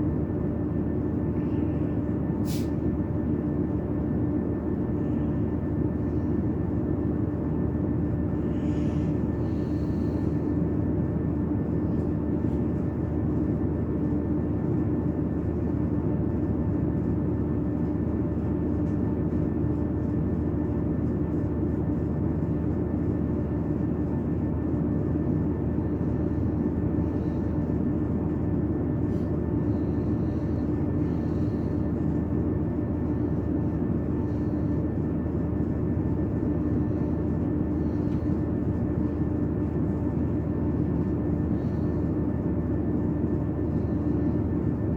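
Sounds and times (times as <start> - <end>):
constant low whine: 0.0 - 44.9
train carriage mechanical hum: 0.0 - 44.9.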